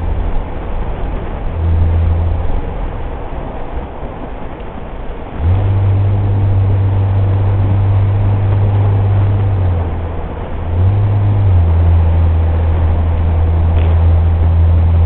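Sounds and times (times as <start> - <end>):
low engine drone: 0.0 - 15.0
road noise hiss: 0.0 - 15.0.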